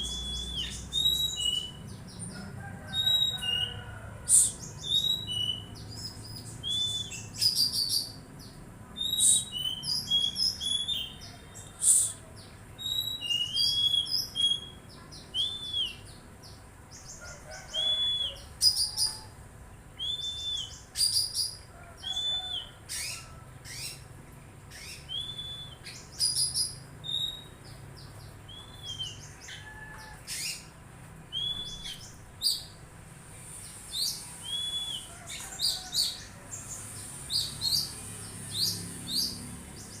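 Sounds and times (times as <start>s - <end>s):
songbird singing: 0.0s - 32.8s, 33.4s - 40.0s.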